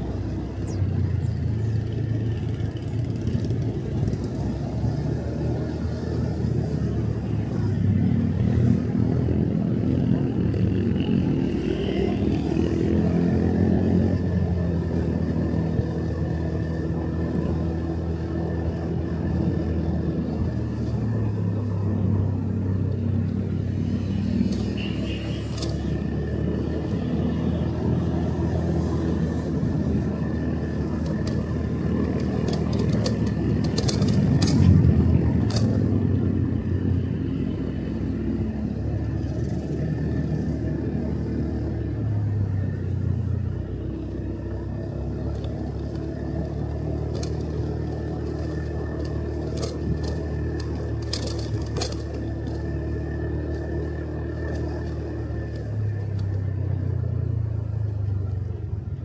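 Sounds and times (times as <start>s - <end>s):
motorcycle engine revving: 0.0s - 59.0s
road noise: 0.0s - 59.0s.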